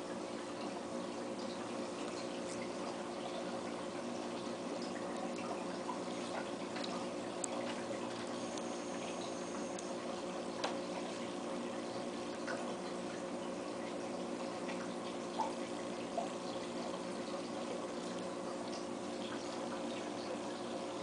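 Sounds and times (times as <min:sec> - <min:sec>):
aquarium water bubbling: 0:00.0 - 0:21.0
equipment humming: 0:00.0 - 0:21.0.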